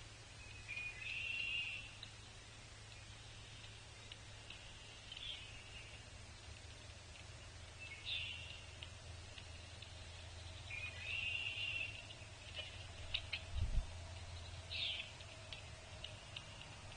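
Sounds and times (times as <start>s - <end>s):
faint low hum: 0.0s - 16.9s
wild birds calling: 0.0s - 16.9s.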